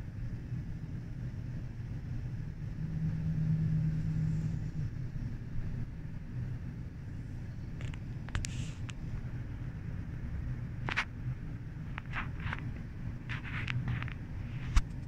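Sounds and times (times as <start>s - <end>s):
rising low hum: 0.0s - 14.6s
strong wind rumble: 0.0s - 15.0s.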